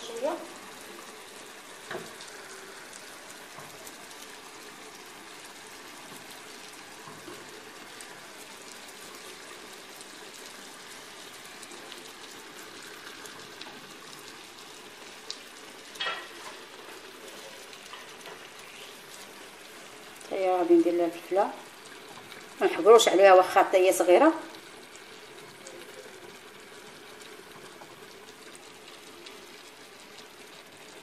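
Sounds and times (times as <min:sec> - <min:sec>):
meat and vegetables sizzling: 0:00.0 - 0:31.0.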